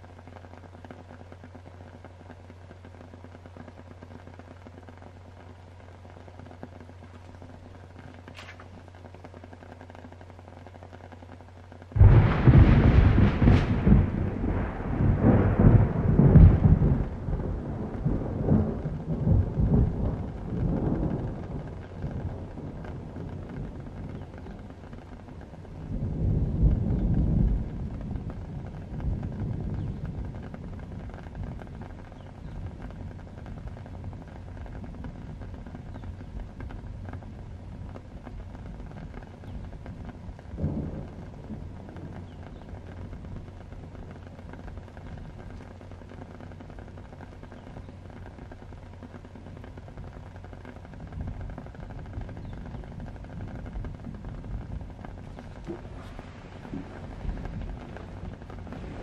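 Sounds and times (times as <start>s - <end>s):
steady rain: 0.0s - 59.0s
thunder rumbling: 0.0s - 59.0s.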